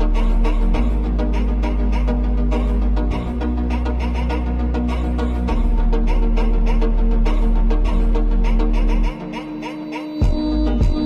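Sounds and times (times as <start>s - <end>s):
music with heavy bass and beat: 0.0s - 11.0s.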